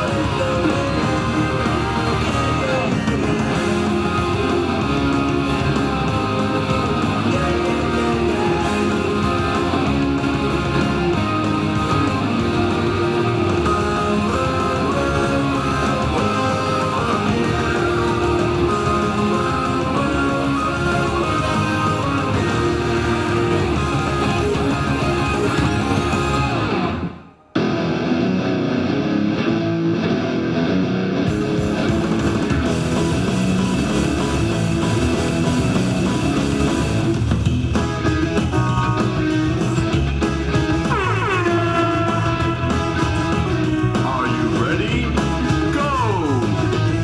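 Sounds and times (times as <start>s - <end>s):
rock music with guitar: 0.0s - 47.0s.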